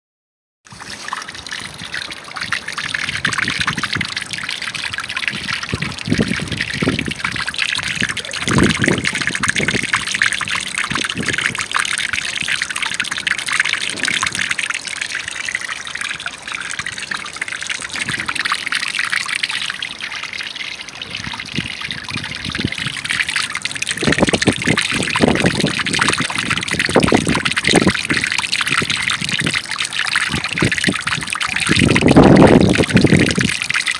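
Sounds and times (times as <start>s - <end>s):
deep water splashes: 0.7s - 33.9s
water trickling and splashing: 0.7s - 33.9s.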